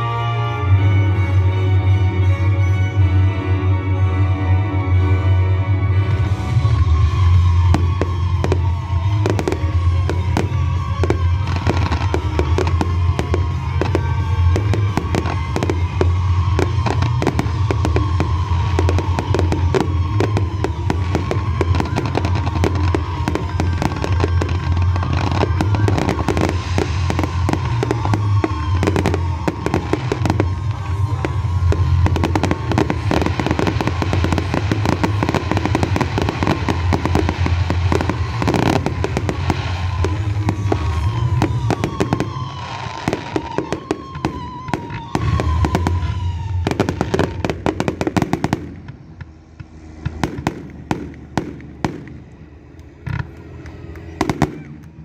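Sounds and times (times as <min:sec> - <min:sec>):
deep rumble: 0:01.1 - 0:55.0
fireworks crackling and banging: 0:05.0 - 0:55.0.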